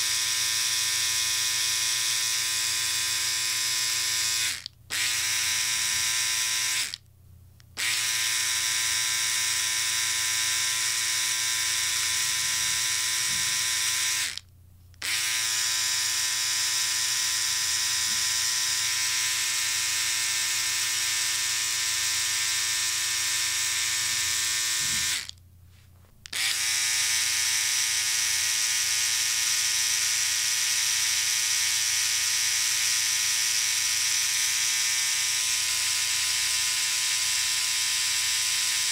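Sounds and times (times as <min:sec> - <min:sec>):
electric shaver buzzing: 0:00.0 - 0:07.0, 0:07.8 - 0:14.4, 0:15.0 - 0:25.4, 0:26.3 - 0:38.9.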